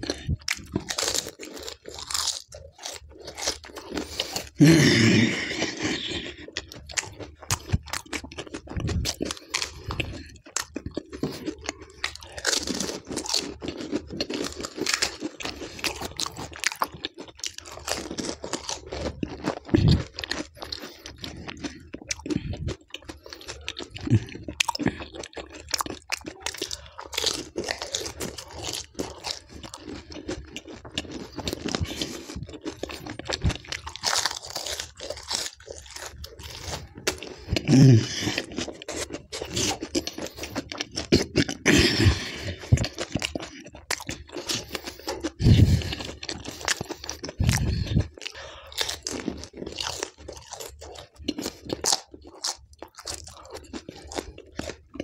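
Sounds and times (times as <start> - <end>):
deep mouth sounds: 0.0 - 55.0.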